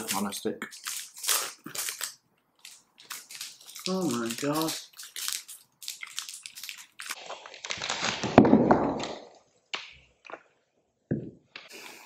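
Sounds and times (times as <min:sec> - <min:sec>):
candy wrapper crinkling: 0:00.0 - 0:10.4.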